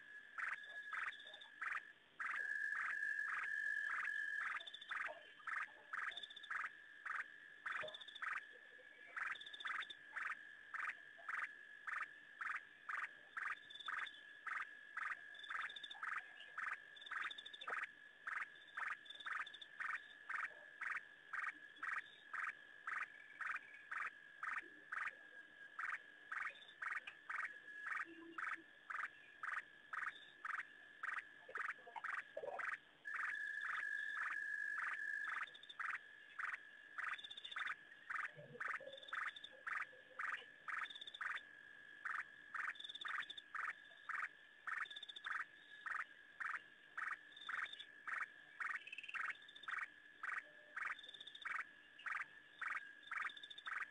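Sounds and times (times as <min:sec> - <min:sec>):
animal high-pitched pulsing calls: 0:00.0 - 0:53.9.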